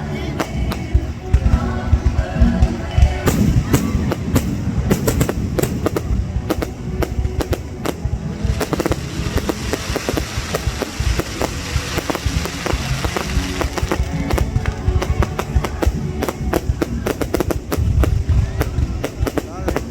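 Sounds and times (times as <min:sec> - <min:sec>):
music playing: 0:00.0 - 0:19.9
fireworks cracking and banging: 0:00.4 - 0:19.9.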